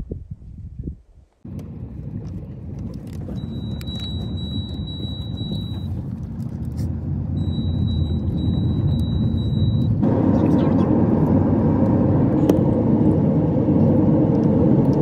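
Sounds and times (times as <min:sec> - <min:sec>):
vehicle rumble on dirt road: 0:01.4 - 0:15.0.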